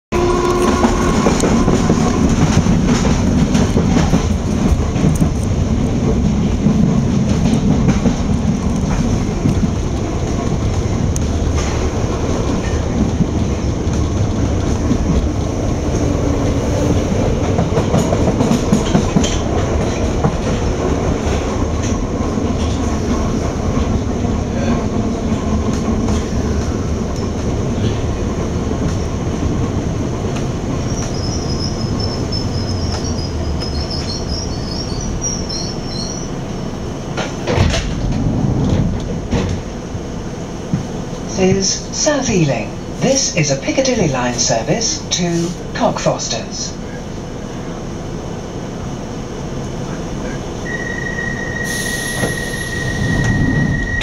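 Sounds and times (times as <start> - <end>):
train wheels and motors rumbling: 0.2 - 54.0
rail clicks: 0.3 - 47.2.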